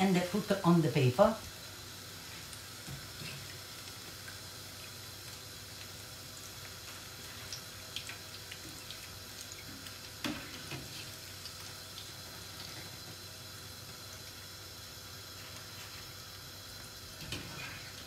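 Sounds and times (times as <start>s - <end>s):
oil sizzling in a pan: 0.0s - 18.0s.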